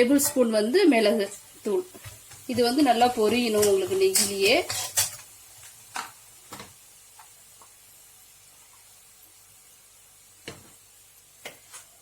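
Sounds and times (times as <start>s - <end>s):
spices frying in a pan: 0.0s - 12.0s.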